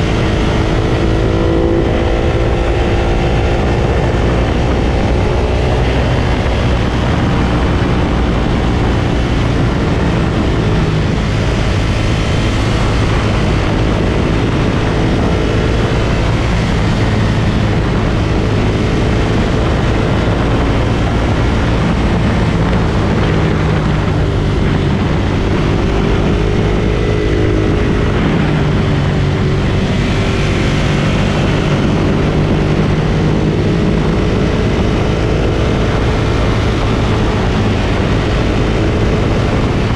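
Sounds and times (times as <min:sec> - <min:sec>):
motorcycle engine running: 0:00.0 - 0:39.9
steady rush of noise: 0:00.0 - 0:39.9.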